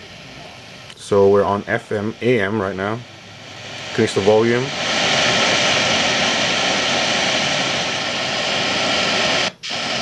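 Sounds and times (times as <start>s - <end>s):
radio static hissing: 0.0s - 10.0s.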